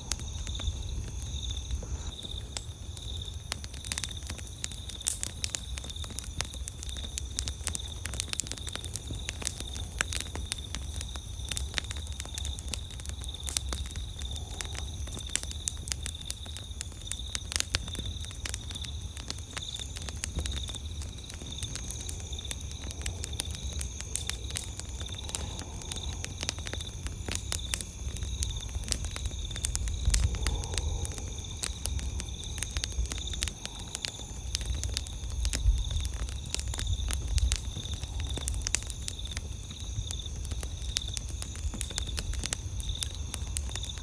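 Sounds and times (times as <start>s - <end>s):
campfire crackling and popping: 0.0s - 44.0s
low rumble of burning: 0.0s - 44.0s.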